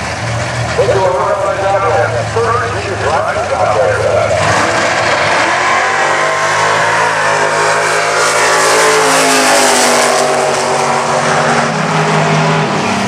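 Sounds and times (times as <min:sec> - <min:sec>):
pickup truck engine at full throttle: 0:00.0 - 0:13.0.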